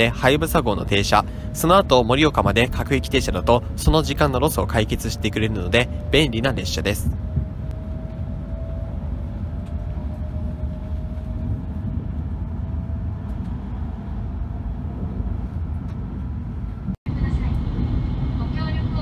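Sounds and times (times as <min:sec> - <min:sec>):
faint rising whine: 0:00.0 - 0:18.5
train running rumble: 0:00.0 - 0:19.0.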